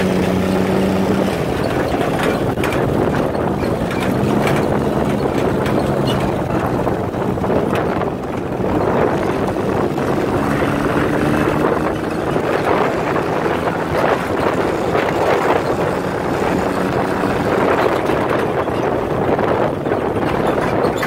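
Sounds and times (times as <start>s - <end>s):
dune buggy engine running: 0.0s - 21.0s
wind noise on microphone: 0.0s - 21.0s.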